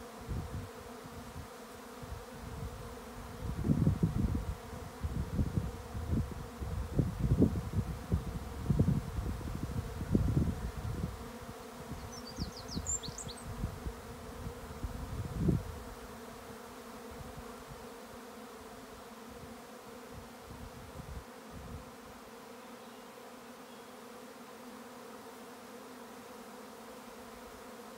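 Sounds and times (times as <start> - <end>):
bees humming: 0.0 - 27.9.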